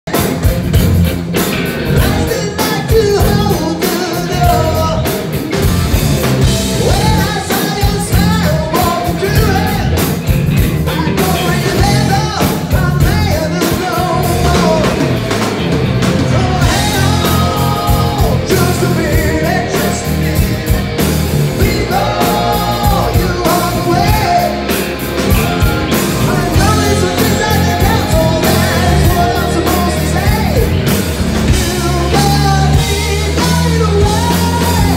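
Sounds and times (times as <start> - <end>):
live rock band playing: 0.0 - 34.9
male lead vocal: 2.0 - 5.3, 6.7 - 10.2, 10.8 - 15.2, 16.1 - 34.9.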